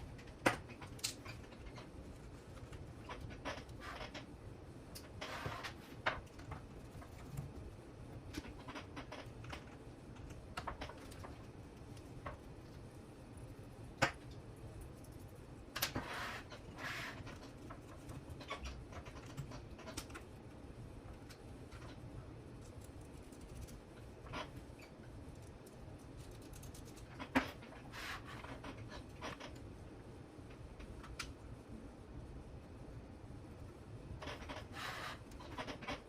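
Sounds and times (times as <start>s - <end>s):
rustling and scratching: 0.0s - 4.4s, 5.0s - 29.7s, 34.2s - 36.0s.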